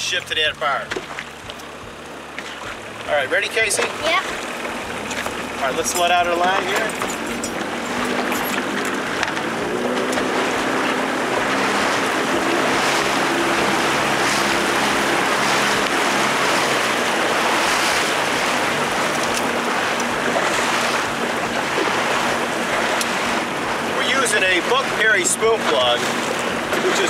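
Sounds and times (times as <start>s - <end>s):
outboard motor running: 0.0s - 27.0s
water and wind rushing: 0.0s - 27.0s.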